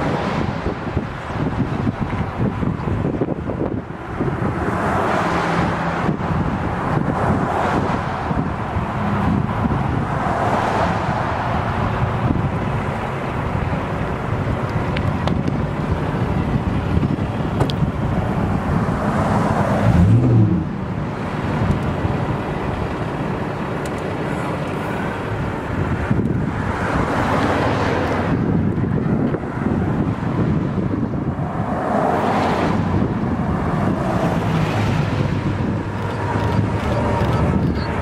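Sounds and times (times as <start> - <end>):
highway traffic passing: 0.0 - 38.0
low vehicle engine passing: 0.0 - 38.0
wind buffeting microphone: 0.0 - 38.0.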